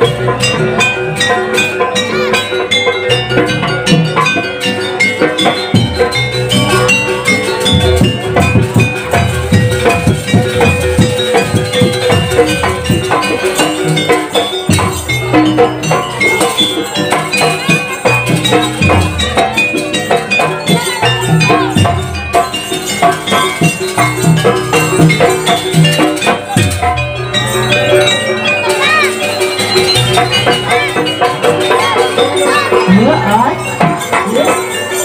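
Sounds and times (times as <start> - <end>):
gamelan music: 0.0 - 35.0.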